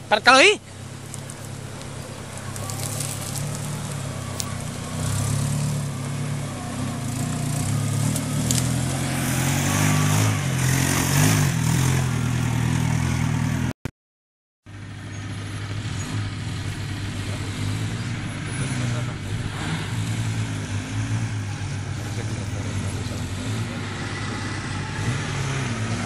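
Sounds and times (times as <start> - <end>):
off-road vehicle engine labouring: 0.0 - 13.8, 14.7 - 26.0.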